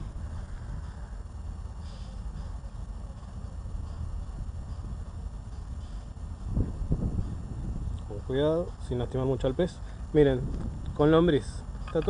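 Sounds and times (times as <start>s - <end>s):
wind buffeting microphone: 0.0s - 1.8s, 2.4s - 12.0s.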